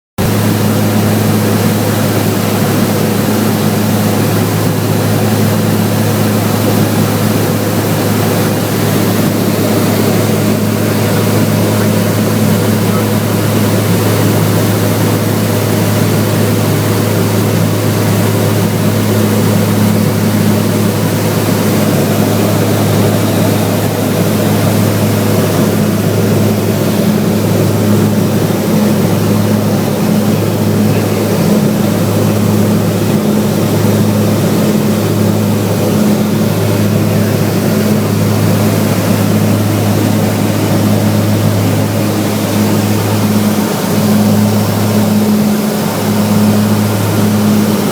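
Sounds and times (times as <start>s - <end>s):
aircraft engines droning in cabin: 0.2s - 47.9s.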